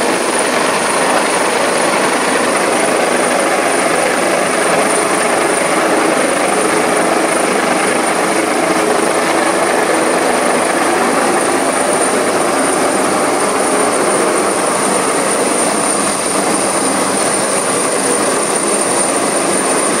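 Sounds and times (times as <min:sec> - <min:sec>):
helicopter hovering overhead: 0:00.0 - 0:20.0.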